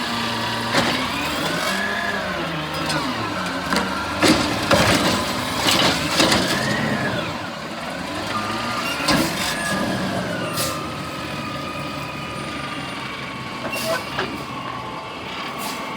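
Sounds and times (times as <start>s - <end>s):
garbage truck engine rumble: 0.0s - 15.9s.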